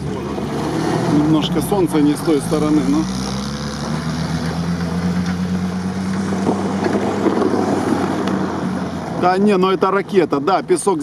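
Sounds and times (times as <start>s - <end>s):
off-road vehicle engine accelerating: 0.0s - 11.0s.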